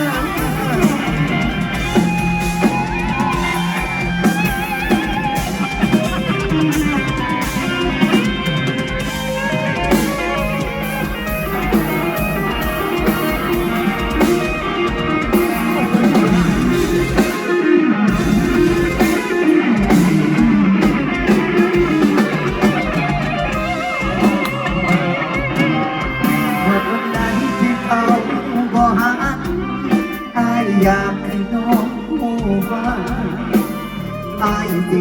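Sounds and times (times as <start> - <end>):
band playing instrumental: 0.0 - 35.0.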